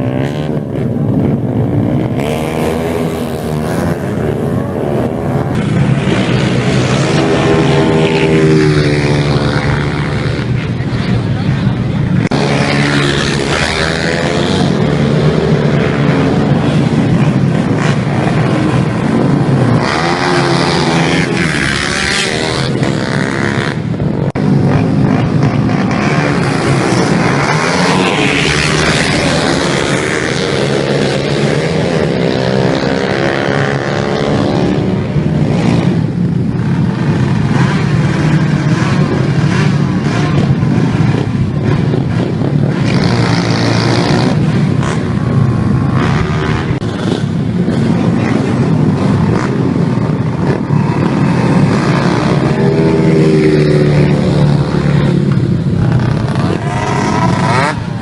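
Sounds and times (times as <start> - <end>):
motorbike engines revving: 0.0 - 58.0.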